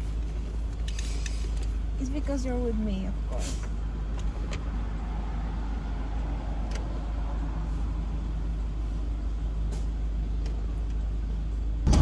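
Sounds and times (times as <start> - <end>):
low rumble inside car cabin: 0.0 - 12.0.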